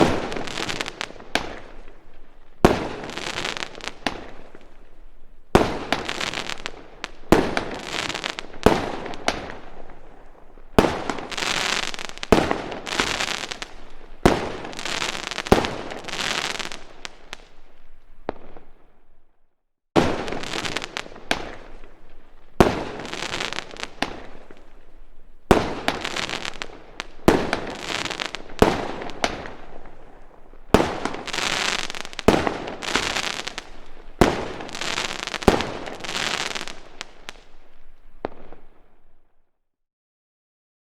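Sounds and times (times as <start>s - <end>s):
fireworks bangs with crackling: 0.0s - 19.0s, 20.0s - 39.2s.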